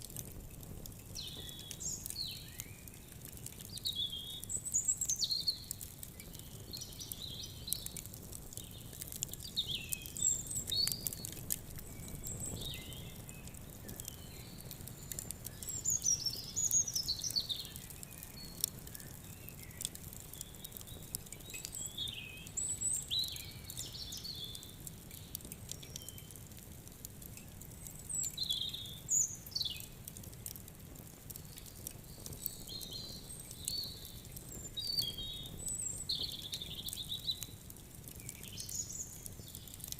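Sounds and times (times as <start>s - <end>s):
wood fire crackling: 0.0s - 39.9s
songbirds chirping: 1.0s - 26.5s, 27.2s - 30.6s, 31.3s - 39.9s.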